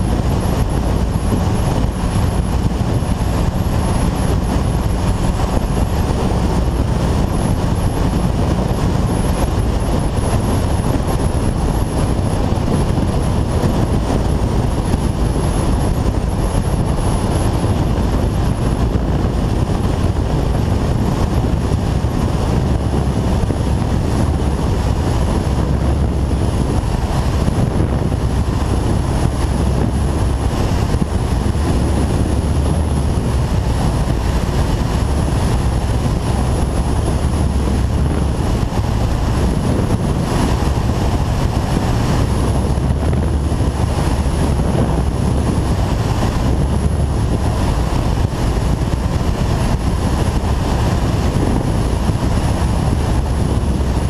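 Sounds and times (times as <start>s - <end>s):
motorcycle engine drone: 0.0s - 54.0s
wind rush: 0.0s - 54.0s.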